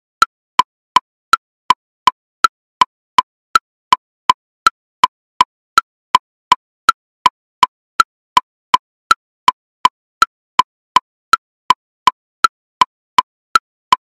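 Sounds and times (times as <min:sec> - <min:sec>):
metronome woodblock clicks: 0:00.1 - 0:14.0.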